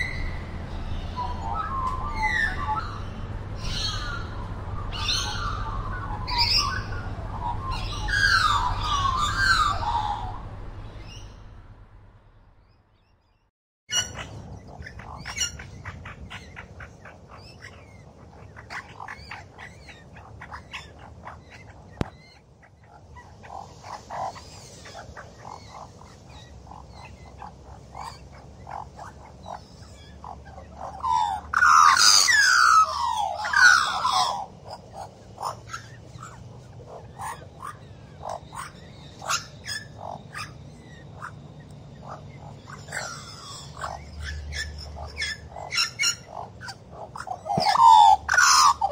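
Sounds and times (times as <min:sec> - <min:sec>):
magpie chirps and gurgling notes: 0:00.0 - 0:10.4, 0:13.9 - 0:48.9
loud bird warbling: 0:00.0 - 0:11.6, 0:12.6 - 0:48.9.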